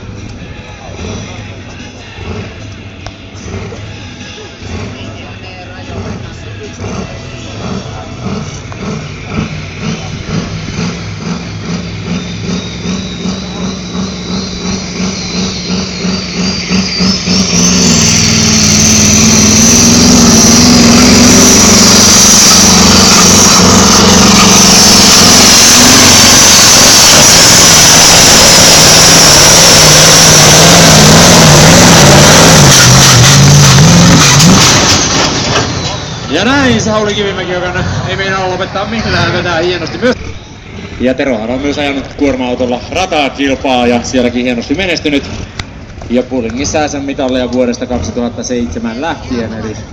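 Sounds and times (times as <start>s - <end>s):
high whine: 0.0s - 45.9s
tractor engine loping: 0.0s - 49.9s.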